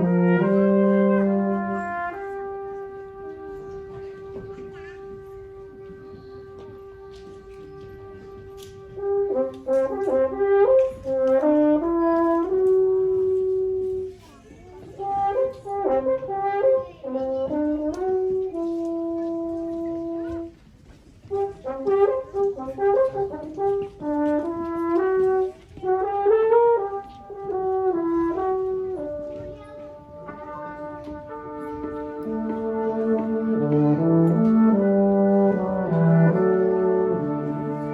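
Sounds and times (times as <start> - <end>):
brass quartet playing: 0.0 - 14.1, 15.0 - 20.5, 21.3 - 37.9.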